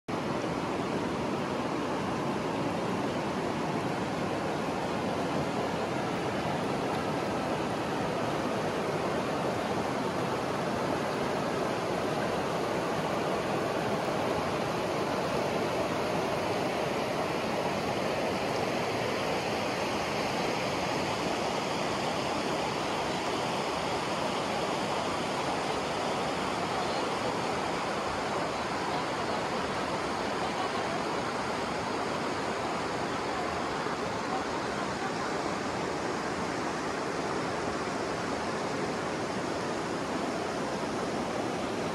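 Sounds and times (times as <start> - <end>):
river rushing over rocks: 0.1 - 41.9.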